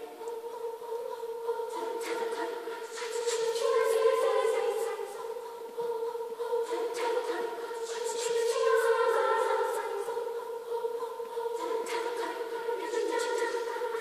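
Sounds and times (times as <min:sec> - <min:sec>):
girls' choir singing a cappella: 0:00.0 - 0:14.0.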